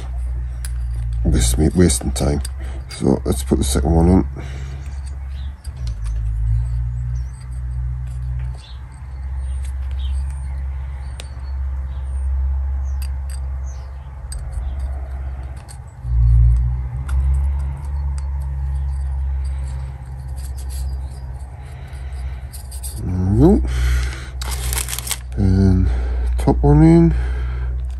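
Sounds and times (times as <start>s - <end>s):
piston ring clicks and scrapes: 0.0s - 25.4s, 27.7s - 27.9s.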